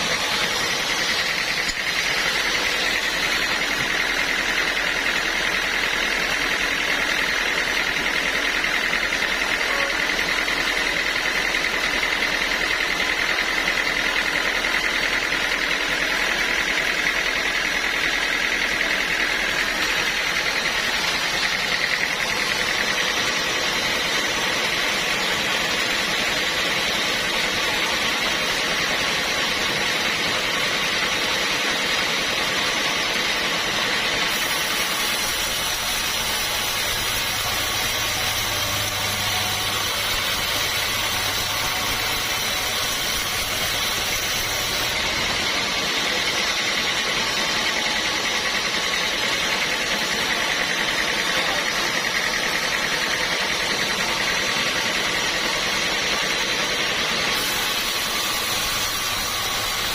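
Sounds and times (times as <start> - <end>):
sawmill saw droning: 0.0 - 59.9.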